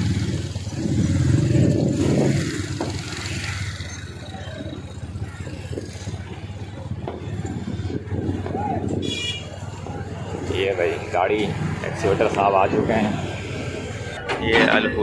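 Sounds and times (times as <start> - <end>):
motorcycle and car engines passing: 0.0 - 15.0.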